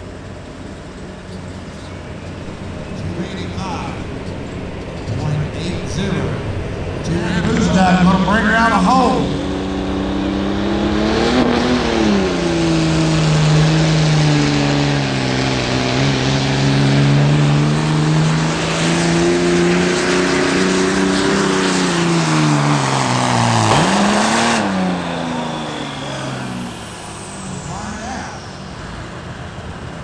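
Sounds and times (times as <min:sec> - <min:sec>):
diesel truck engine at high revs: 0:00.0 - 0:30.0.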